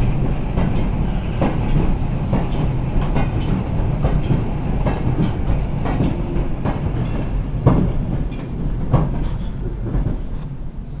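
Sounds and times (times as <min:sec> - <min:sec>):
wheels clicking over rail joints: 0:00.0 - 0:10.7
train rumbling on track: 0:00.0 - 0:11.0.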